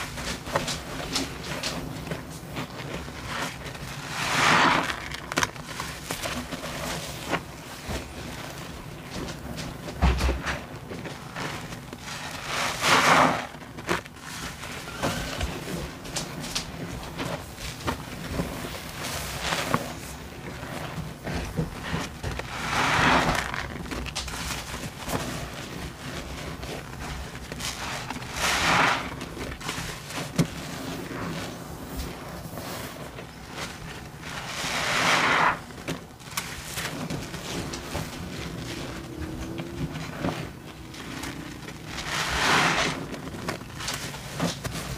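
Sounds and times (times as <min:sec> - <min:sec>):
crackle of suds: 0:00.0 - 0:44.9
wet sponge squeezing: 0:00.0 - 0:44.9.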